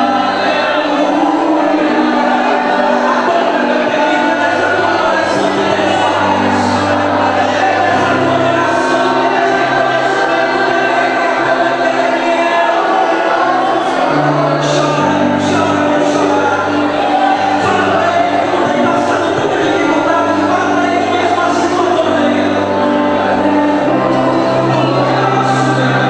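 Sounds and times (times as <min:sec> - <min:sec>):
gospel choir singing: 0:00.0 - 0:26.0.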